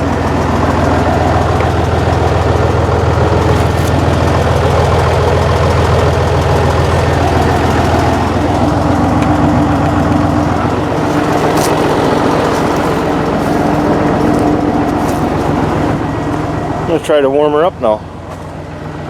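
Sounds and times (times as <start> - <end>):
diesel engine idling: 0.0 - 19.0
steady whine: 0.0 - 19.0.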